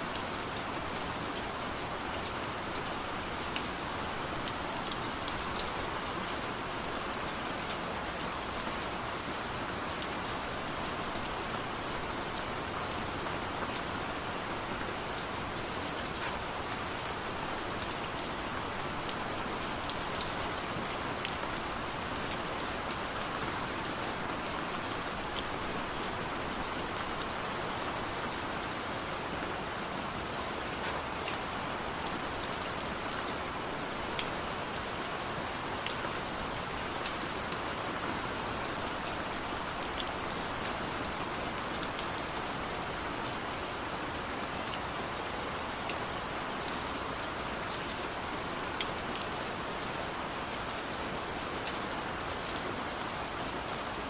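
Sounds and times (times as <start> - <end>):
rain falling: 0.0 - 54.0
raindrops ticking on a surface: 0.1 - 54.0.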